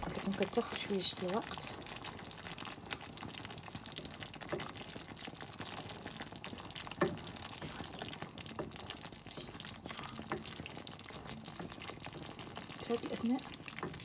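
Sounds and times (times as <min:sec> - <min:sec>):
sauce bubbling in a pan: 0:00.0 - 0:14.0.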